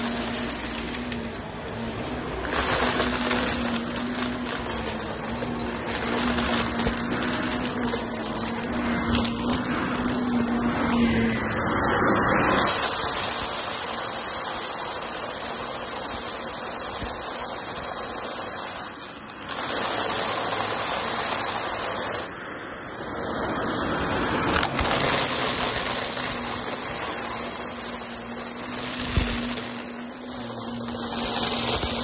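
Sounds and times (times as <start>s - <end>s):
debris crunching and rattling: 0.0s - 11.2s, 12.4s - 22.3s, 24.5s - 32.0s
vacuum cleaner running: 0.0s - 22.4s, 23.9s - 32.0s.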